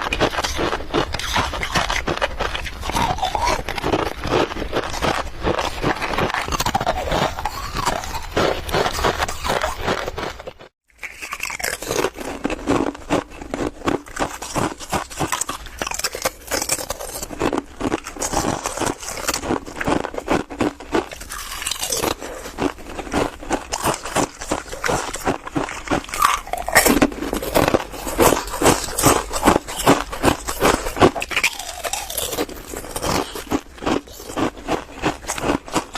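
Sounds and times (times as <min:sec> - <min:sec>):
crunching ice in the mouth: 0:00.0 - 0:35.9.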